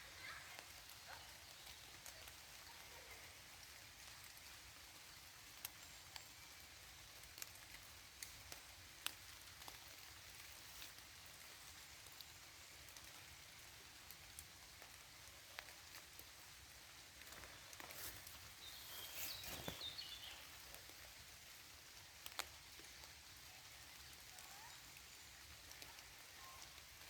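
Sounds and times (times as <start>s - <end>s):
faint rain hiss: 0.0s - 27.0s
raindrops ticking: 0.1s - 27.0s.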